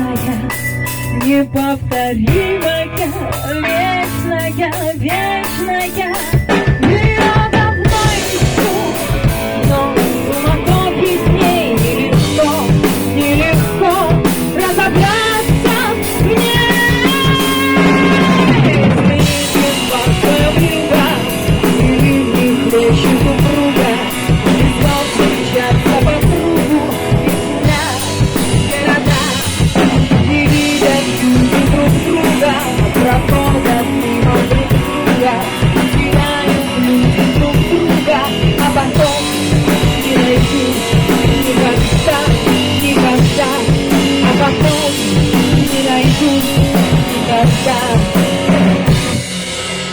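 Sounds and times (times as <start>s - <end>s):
drum kit beat: 0.0s - 49.9s
melodic guitar line: 0.0s - 49.9s.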